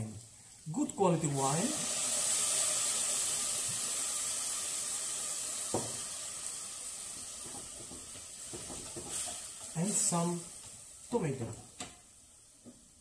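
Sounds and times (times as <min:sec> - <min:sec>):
wine sizzling in a saucepan: 0:00.0 - 0:13.0.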